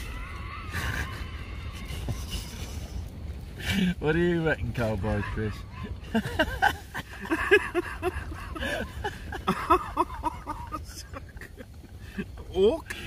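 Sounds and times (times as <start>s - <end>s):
men laughing: 0.7s - 4.0s, 4.6s - 13.0s.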